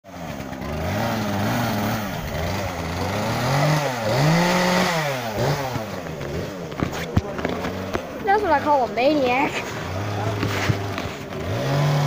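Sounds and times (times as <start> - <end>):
chainsaw cutting wood: 0.1 - 12.0.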